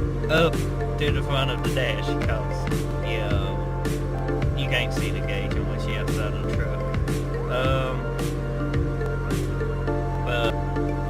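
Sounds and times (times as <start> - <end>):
music with steady beat and chords: 0.0 - 11.0.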